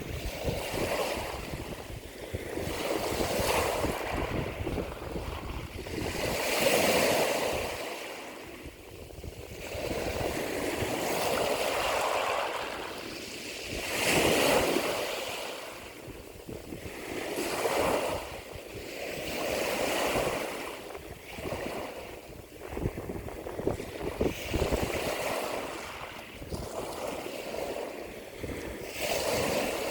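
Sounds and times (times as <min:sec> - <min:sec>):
ocean waves surging: 0:00.0 - 0:29.9.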